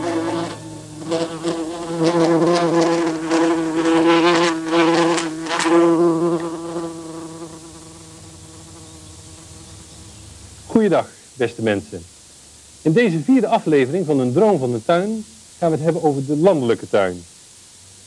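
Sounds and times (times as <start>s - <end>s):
honeybees buzzing: 0.0s - 16.7s.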